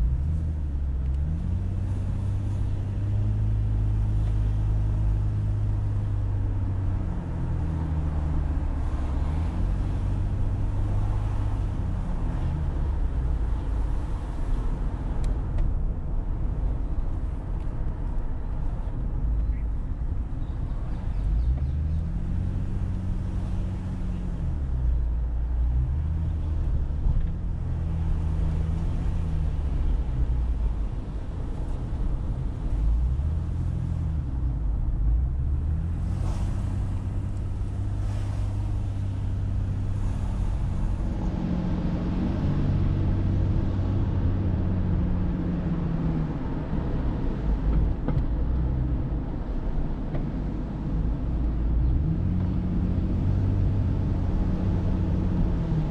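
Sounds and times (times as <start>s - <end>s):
car engine: 0.0s - 55.9s
road noise: 0.0s - 55.9s.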